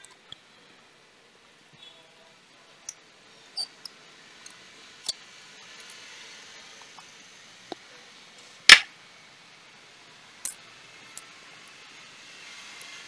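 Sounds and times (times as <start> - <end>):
faint hiss: 0.2 - 13.0.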